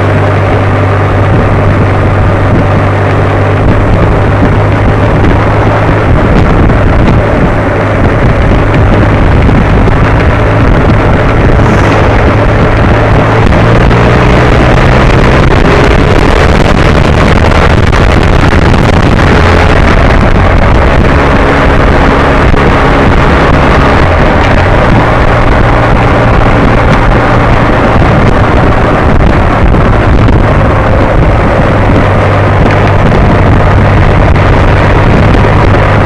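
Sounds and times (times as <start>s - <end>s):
motorcycle engine running: 0.0s - 36.0s
wind rush on microphone: 0.0s - 36.0s.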